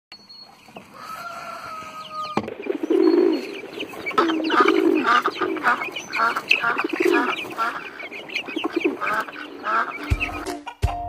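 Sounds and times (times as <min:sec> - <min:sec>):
poultry calling: 0:00.4 - 0:10.8.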